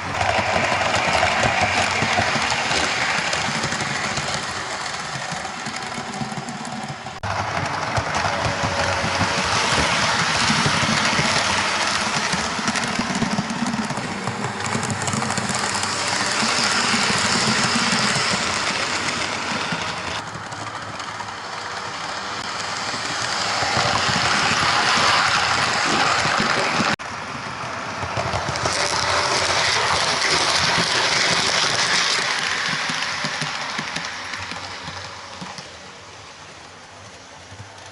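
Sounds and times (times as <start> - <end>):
model train whirring and rattling: 0.0 - 37.9.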